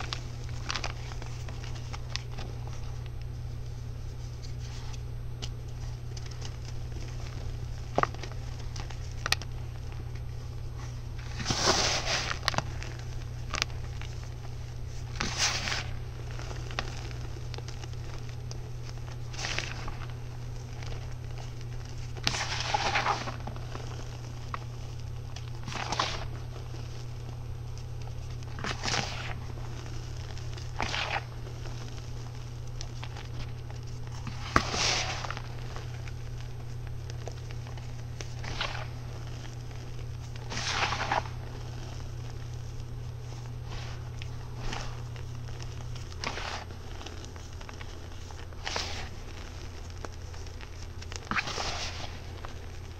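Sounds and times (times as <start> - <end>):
low hum: 0.0 - 52.9
powder clumps crunching: 0.0 - 52.9.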